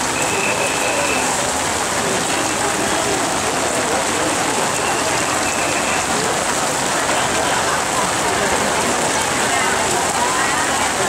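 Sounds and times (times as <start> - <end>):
heavy rain on umbrellas: 0.0 - 11.0.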